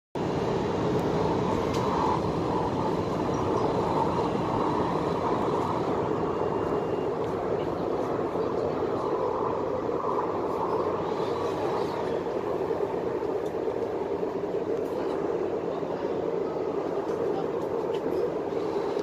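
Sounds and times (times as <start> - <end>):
train carriage rumble and hum: 0.2 - 19.0.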